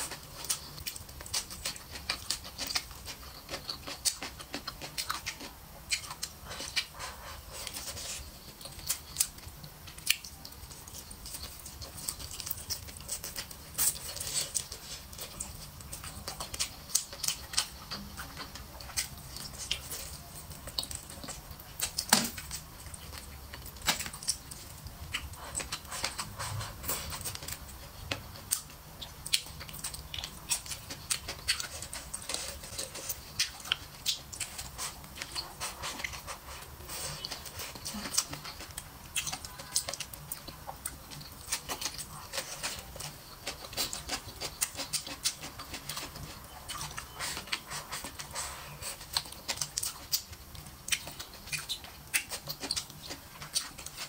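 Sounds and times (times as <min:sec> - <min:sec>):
chewing with wet clicks and smacks: 0:00.0 - 0:54.0
food crunching: 0:00.0 - 0:54.0.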